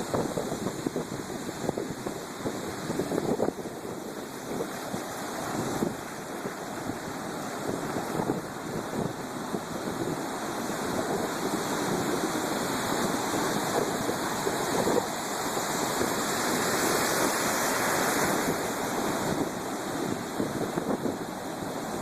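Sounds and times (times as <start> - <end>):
waves breaking: 0.0 - 22.0.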